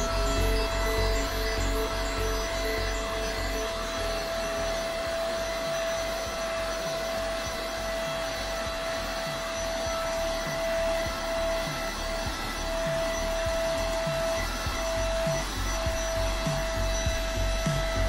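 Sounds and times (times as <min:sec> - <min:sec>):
handheld vacuum cleaner running: 0:00.0 - 0:18.0.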